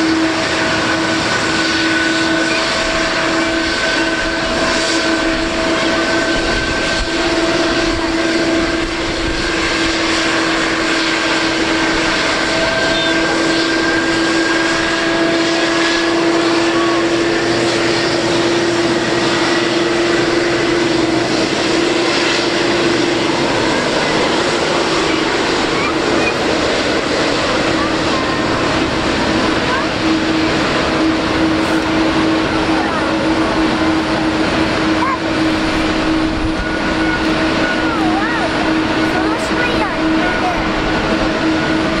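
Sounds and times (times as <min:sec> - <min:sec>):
jet engines running with whine: 0:00.0 - 0:42.0.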